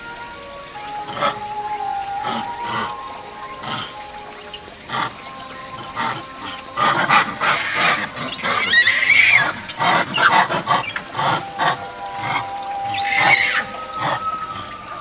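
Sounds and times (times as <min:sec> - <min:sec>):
monkeys screaming and squealing: 0:00.0 - 0:15.0.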